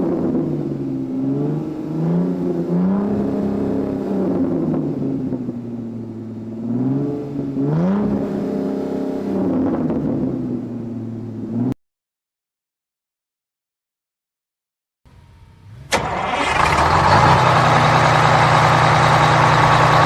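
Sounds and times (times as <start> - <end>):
vehicle engine revving: 0.0 - 11.8, 15.1 - 20.0.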